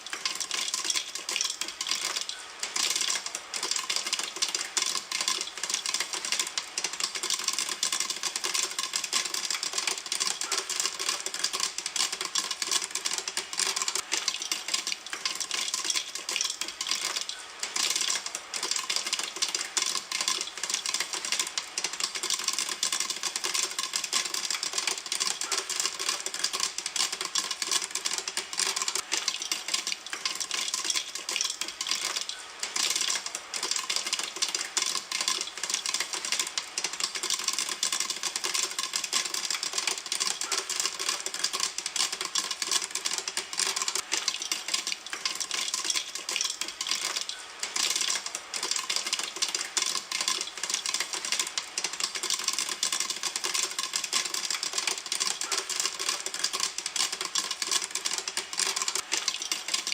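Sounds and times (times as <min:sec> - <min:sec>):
popcorn popping in a pan: 0:00.0 - 0:59.9.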